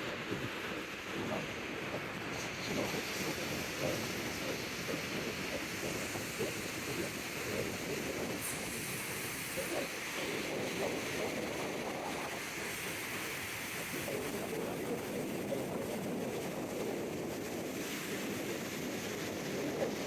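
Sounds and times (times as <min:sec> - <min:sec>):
rushing water at dam: 0:00.0 - 0:20.0
wind on microphone: 0:00.0 - 0:20.0.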